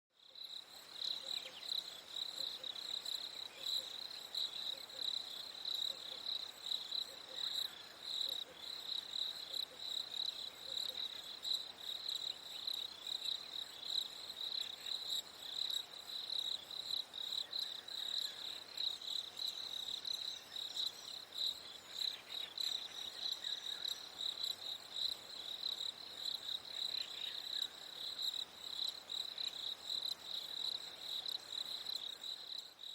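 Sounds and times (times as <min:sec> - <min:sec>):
crickets chirping: 0:00.2 - 0:32.9.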